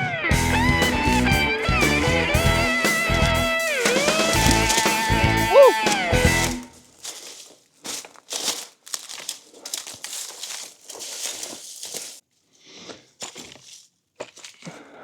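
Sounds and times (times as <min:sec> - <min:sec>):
dry leaves rustling and crunching: 0:00.4 - 0:12.3, 0:13.1 - 0:14.7.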